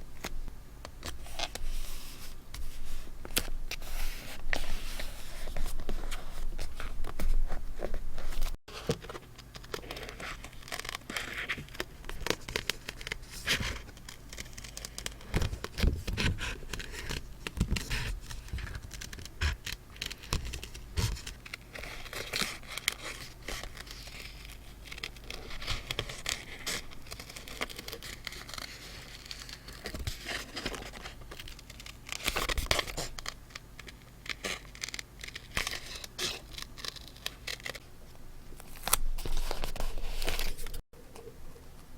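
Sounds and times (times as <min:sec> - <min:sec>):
paper crinkling and rustling: 0:01.0 - 0:37.8, 0:38.6 - 0:40.8.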